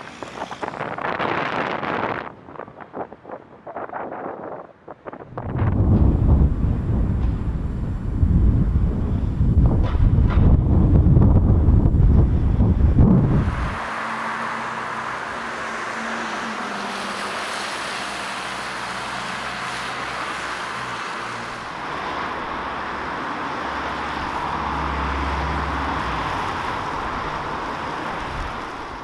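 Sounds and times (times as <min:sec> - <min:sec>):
passing vehicles rushing: 0:00.0 - 0:03.5, 0:05.0 - 0:29.0
low engine hum: 0:05.3 - 0:29.0.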